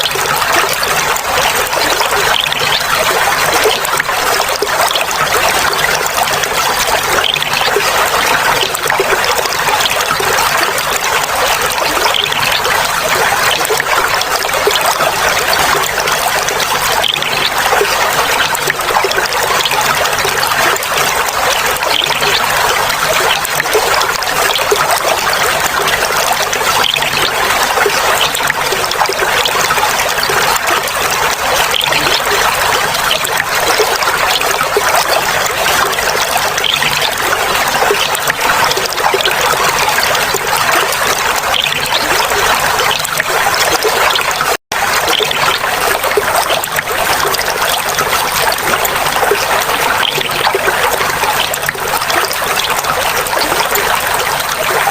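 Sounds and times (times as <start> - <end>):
water trickling and babbling: 0.0 - 54.9.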